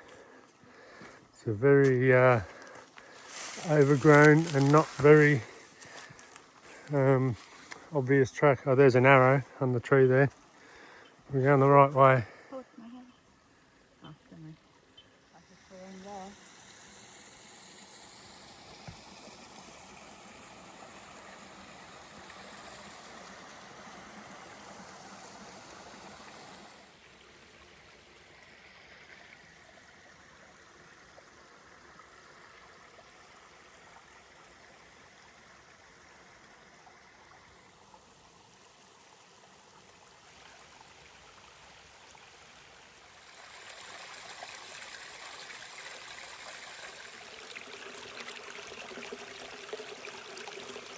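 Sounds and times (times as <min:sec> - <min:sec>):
creek water flowing: 0:00.0 - 0:50.9.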